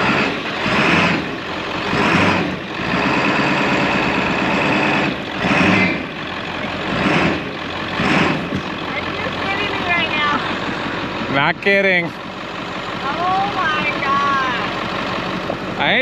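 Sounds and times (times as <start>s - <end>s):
diesel truck engine driving: 0.0s - 16.0s.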